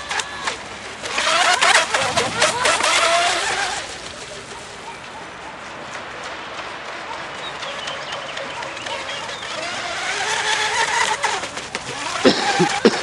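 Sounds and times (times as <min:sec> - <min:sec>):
rc speedboat motor whine: 0:00.0 - 0:05.5, 0:06.6 - 0:13.0
water spray and hull noise: 0:00.0 - 0:13.0.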